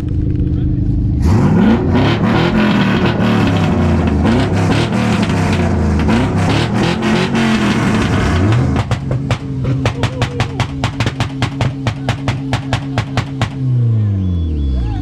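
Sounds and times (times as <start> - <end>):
car engine revving hard: 1.2 - 14.1.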